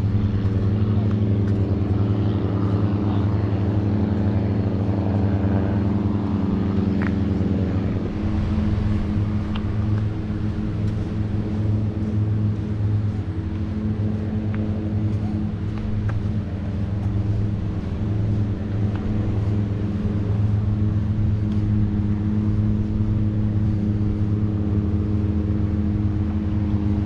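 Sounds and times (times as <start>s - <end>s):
engine droning steadily: 0.0s - 27.0s.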